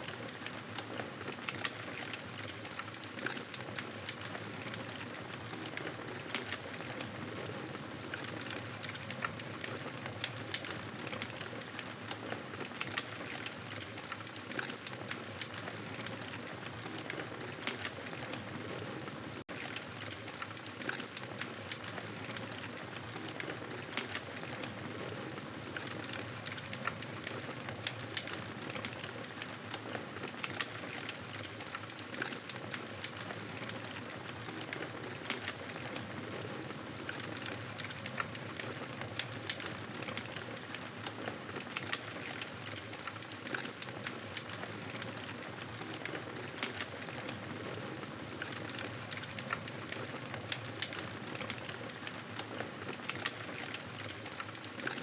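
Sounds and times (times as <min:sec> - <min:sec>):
campfire crackling: 0:00.1 - 0:55.0.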